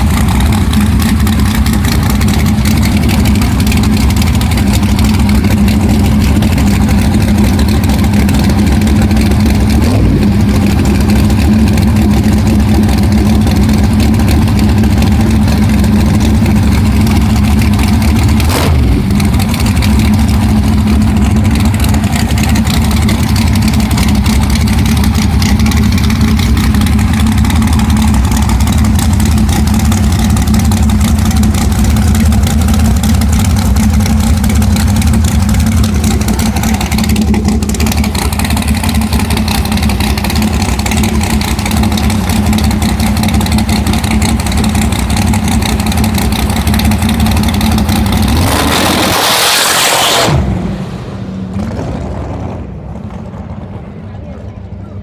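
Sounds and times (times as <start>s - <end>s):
car engine idling loud: 0.0s - 55.0s.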